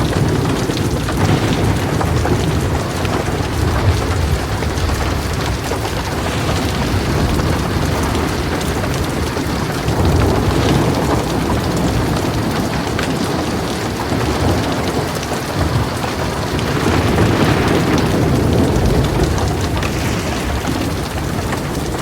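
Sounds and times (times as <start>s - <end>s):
deep thunder rumble: 0.0s - 22.0s
heavy rain hissing: 0.0s - 22.0s.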